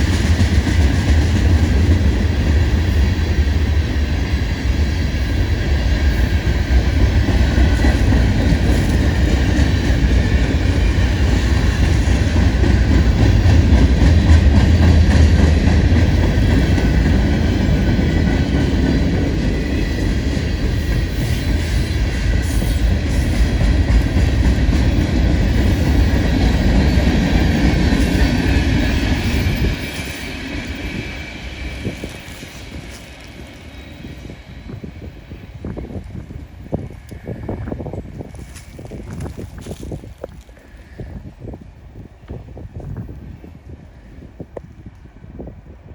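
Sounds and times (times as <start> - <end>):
freight train rumbling past: 0.0 - 45.9.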